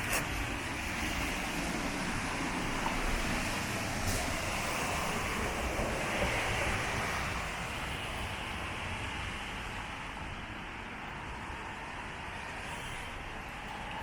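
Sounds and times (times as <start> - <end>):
rain on a wet street: 0.0 - 12.7.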